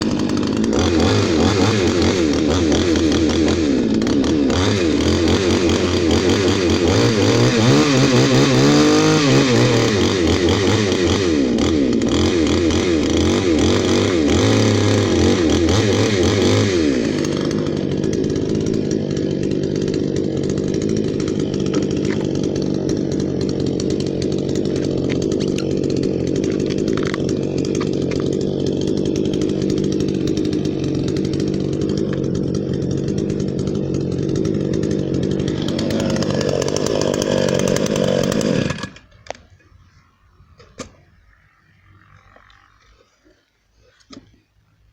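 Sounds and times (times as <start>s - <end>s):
earth auger engine running: 0.0s - 44.3s.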